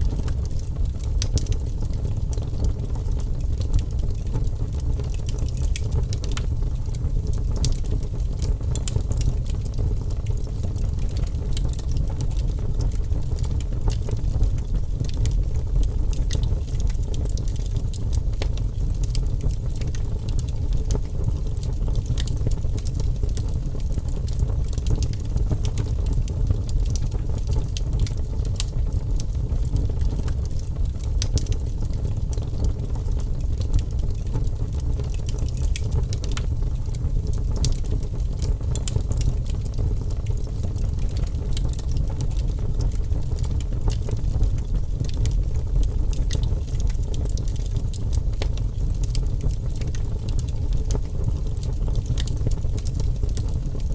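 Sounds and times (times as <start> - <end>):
low rumble of flames: 0.0 - 53.9
wood fire crackling: 0.0 - 53.9.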